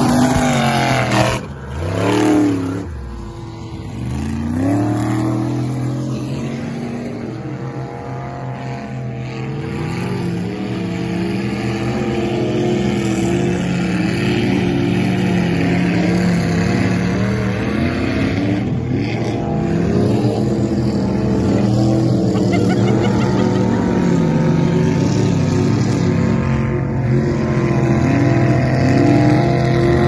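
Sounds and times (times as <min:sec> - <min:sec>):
truck engine revving hard: 0:00.0 - 0:30.0.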